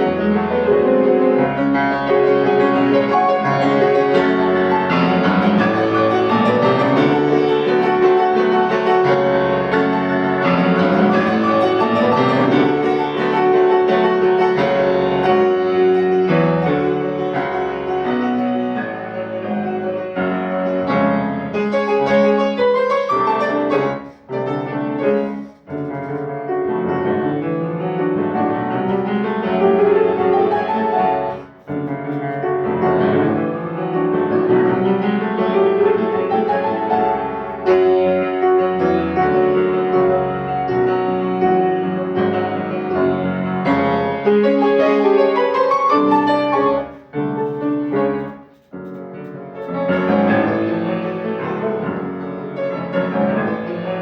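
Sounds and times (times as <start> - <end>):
classical piano playing: 0.0 - 54.0.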